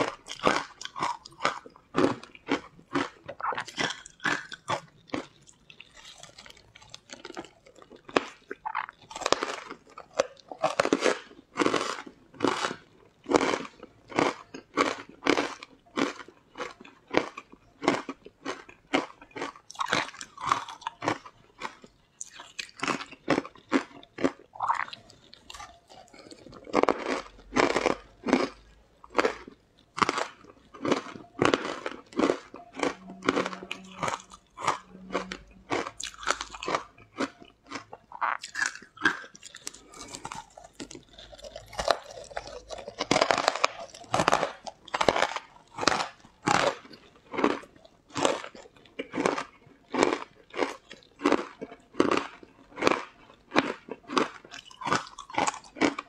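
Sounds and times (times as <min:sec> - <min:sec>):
person crunching and chewing: 0:00.0 - 0:56.0.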